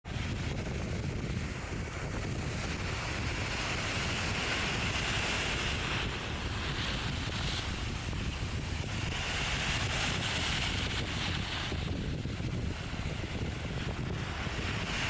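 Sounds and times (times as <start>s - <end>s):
wind buffeting microphone: 0.0s - 15.0s
surf washing on beach: 0.1s - 15.0s.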